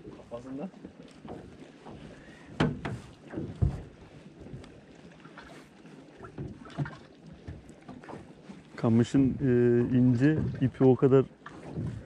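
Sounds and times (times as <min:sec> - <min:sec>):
knocks and thumps on boat: 0:00.0 - 0:12.0.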